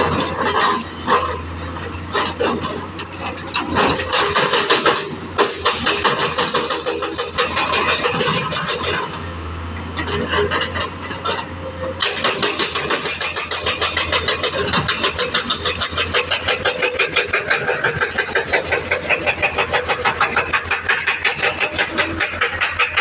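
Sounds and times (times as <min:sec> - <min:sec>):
pulsing diesel engine running: 0:00.0 - 0:23.0.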